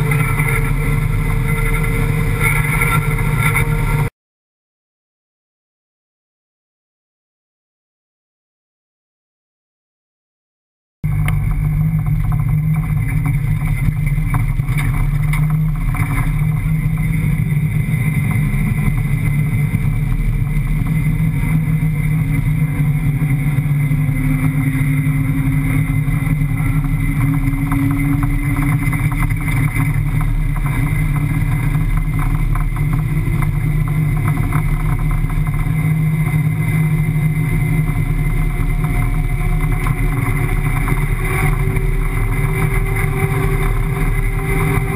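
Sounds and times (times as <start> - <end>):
car engine running under load: 0.0 - 4.1, 11.1 - 44.9.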